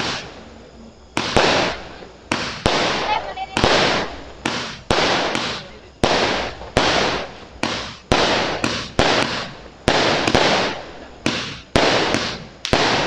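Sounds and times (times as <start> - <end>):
firework bangs: 0.0 - 13.0
firework stars hissing: 0.0 - 13.0.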